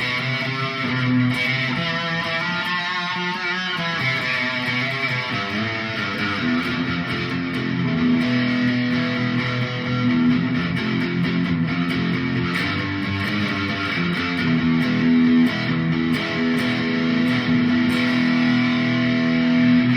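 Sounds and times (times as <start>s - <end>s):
electric guitar playing: 0.0s - 19.9s.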